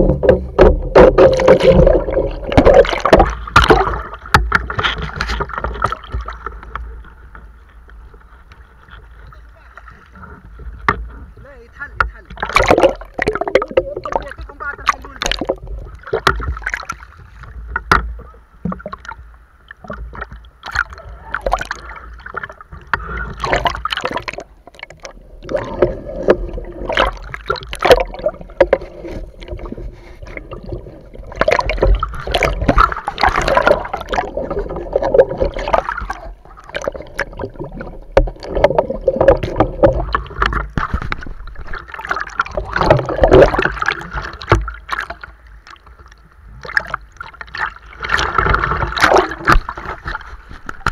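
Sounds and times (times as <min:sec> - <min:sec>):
seawater sloshing and splashing: 0:00.0 - 0:50.9.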